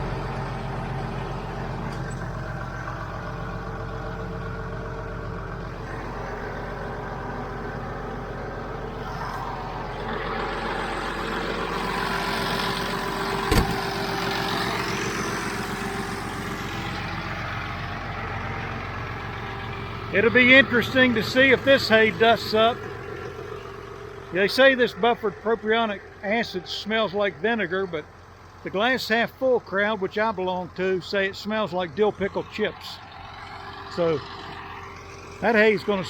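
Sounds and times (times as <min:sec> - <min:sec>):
tractor diesel engine running: 0:00.0 - 0:36.0
baler working: 0:00.2 - 0:36.0.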